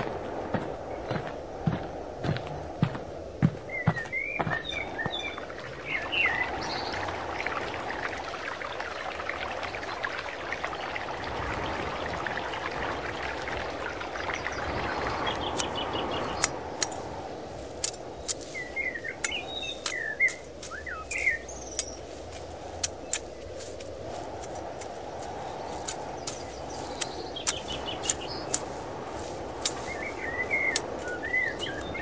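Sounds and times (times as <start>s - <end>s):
small birds chirping: 0.0s - 32.0s
steady rushing noise: 0.0s - 32.0s.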